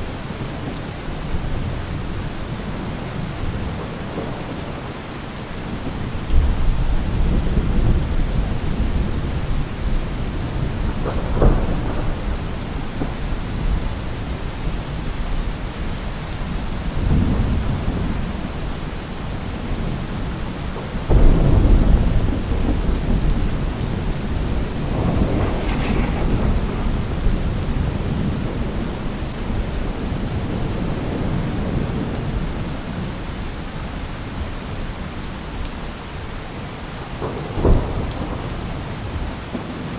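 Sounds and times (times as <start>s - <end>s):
heavy rain: 0.0s - 39.9s
rolling thunder: 0.6s - 33.1s, 37.1s - 39.9s.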